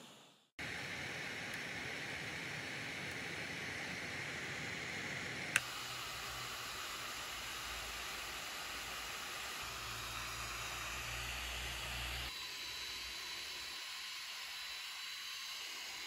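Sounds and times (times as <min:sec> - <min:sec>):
blower fan hissing: 0:00.0 - 0:16.0
thin high whine: 0:00.0 - 0:16.0.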